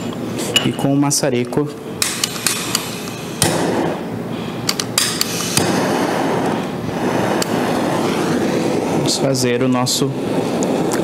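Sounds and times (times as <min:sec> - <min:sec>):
blowtorch flame hissing: 0:01.8 - 0:11.0.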